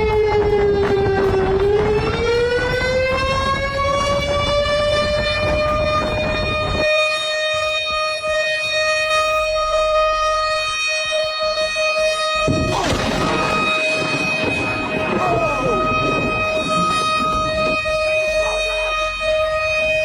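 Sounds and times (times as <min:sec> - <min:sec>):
noisy background: 0:00.0 - 0:20.0
siren wailing: 0:00.0 - 0:20.0.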